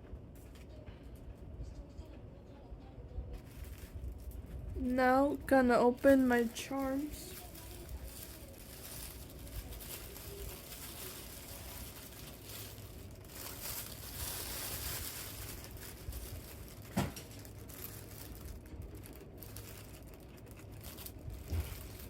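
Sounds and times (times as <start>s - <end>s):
packaging crinkling and rustling: 3.3s - 22.0s.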